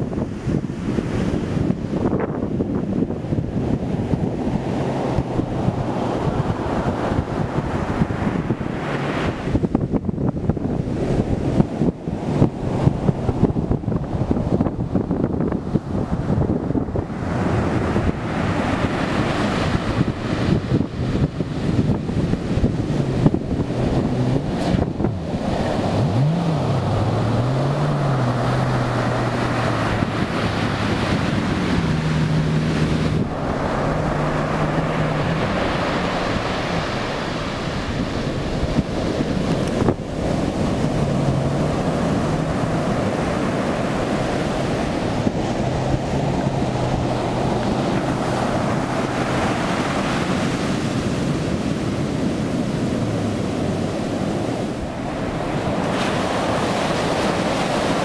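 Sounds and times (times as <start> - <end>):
heavy surf breaking: 0.0 - 58.0
jet ski engine humming: 0.0 - 58.0
wind buffeting microphone: 0.0 - 58.0.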